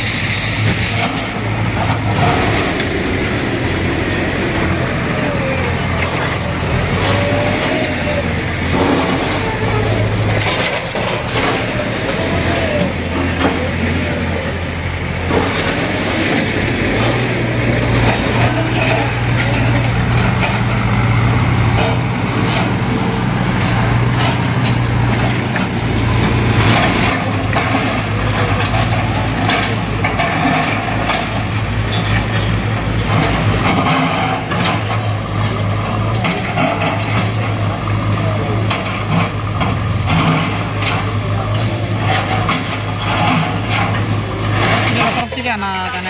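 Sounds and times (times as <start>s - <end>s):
brick rubble clattering: 0.0s - 46.0s
diesel engines running under load: 0.0s - 46.0s.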